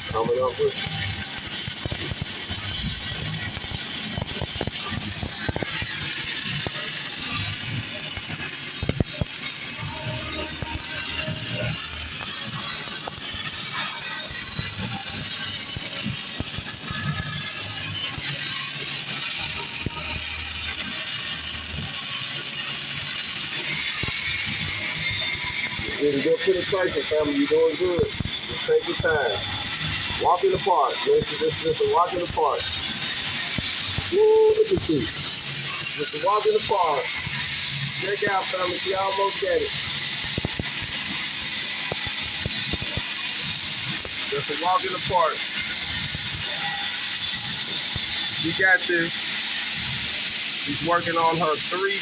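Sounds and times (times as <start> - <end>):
welding arc crackling hiss: 0.0 - 52.0.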